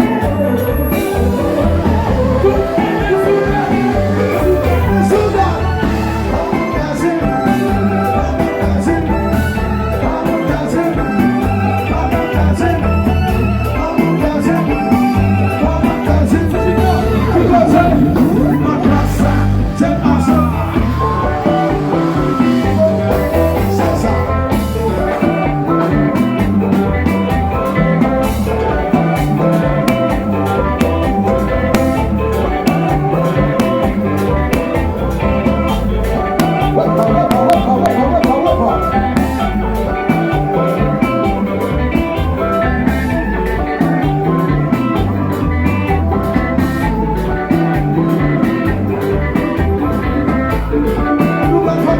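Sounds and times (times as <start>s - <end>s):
person singing: 0.0s - 26.4s, 27.5s - 44.8s
loud music with bass beat: 0.0s - 51.9s.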